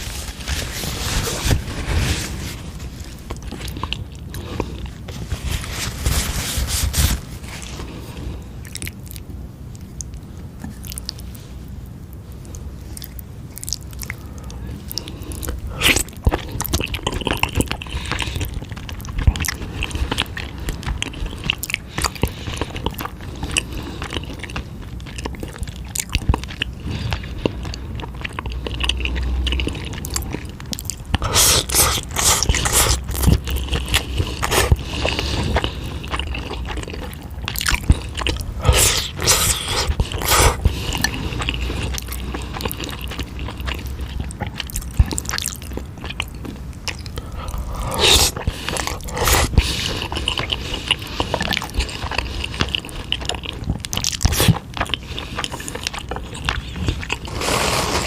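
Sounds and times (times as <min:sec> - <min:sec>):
chewing noodles: 0:00.0 - 0:58.0.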